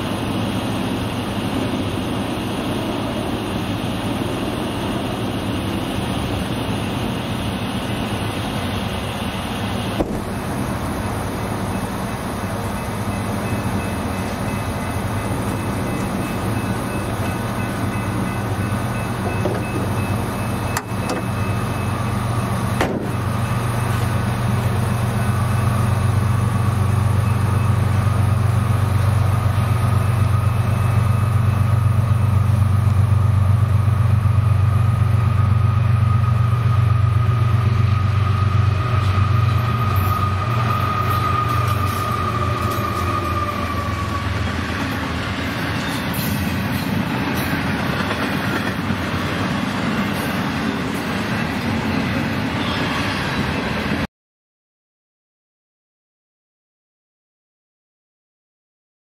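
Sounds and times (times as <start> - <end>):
locomotive engine rumble: 0.0 - 54.0.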